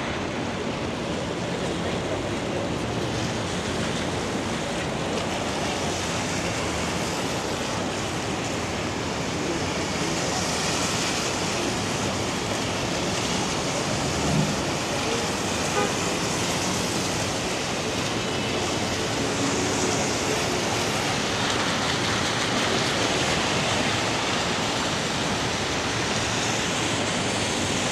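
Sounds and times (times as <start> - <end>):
car tyres on wet street: 0.0 - 27.9
traffic passing: 0.0 - 27.9
rain hissing: 0.1 - 27.9.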